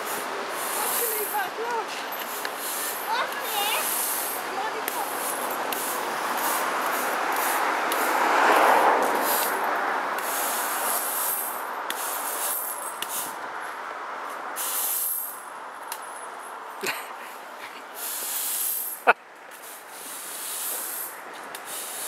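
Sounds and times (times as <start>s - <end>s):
broom sweeping concrete: 0.0s - 13.4s, 14.3s - 15.4s, 17.3s - 22.0s.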